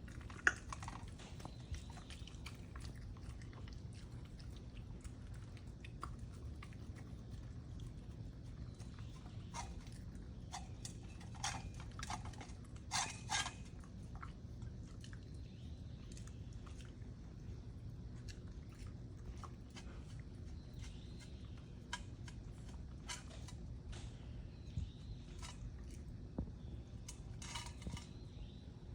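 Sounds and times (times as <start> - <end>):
dog chewing and licking: 0.0 - 24.1.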